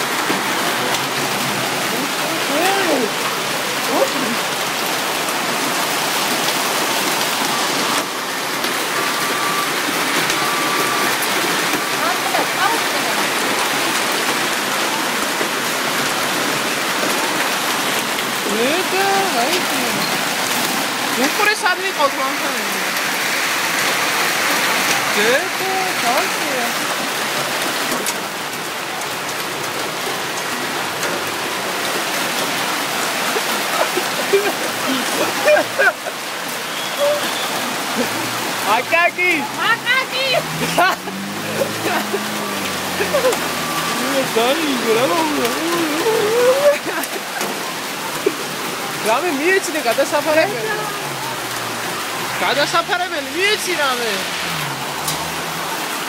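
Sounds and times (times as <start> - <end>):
hailstones ticking: 0.0 - 56.0
heavy rain hiss: 0.0 - 56.0.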